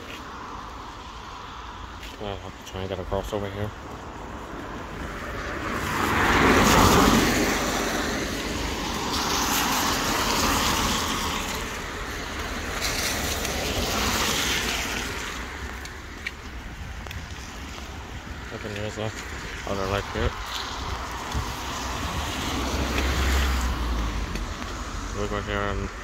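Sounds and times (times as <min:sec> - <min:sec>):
cars passing on wet road: 0:00.0 - 0:26.0.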